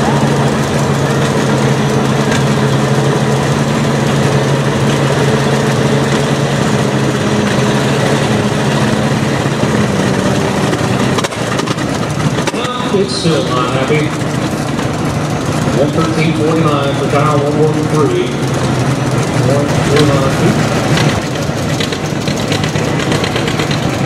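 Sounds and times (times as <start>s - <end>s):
tractor engine running hard: 0.0s - 24.0s.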